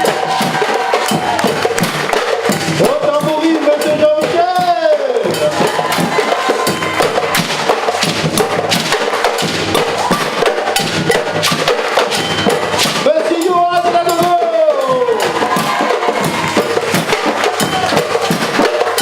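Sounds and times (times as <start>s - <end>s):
fast drumming: 0.0s - 19.0s
wood-block strikes: 0.0s - 19.0s.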